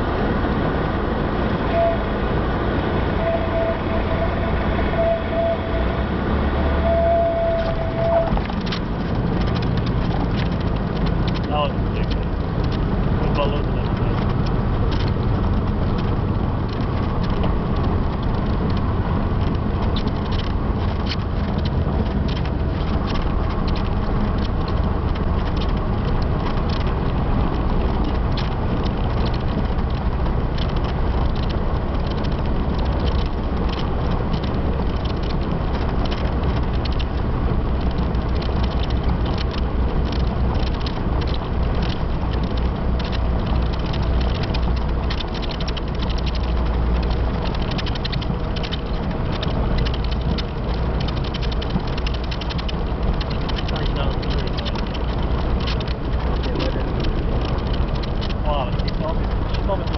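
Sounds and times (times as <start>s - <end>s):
small crackles: 7.0s - 59.9s.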